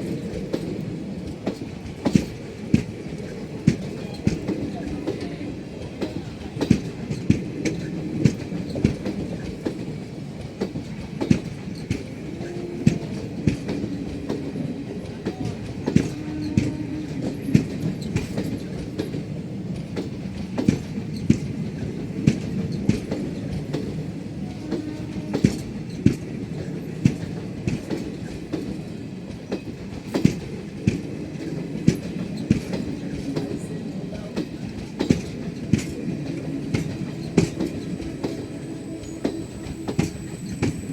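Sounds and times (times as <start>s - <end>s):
rail joint clicks and knocks: 0.0s - 40.9s
train wheels rumbling on track: 0.0s - 40.9s.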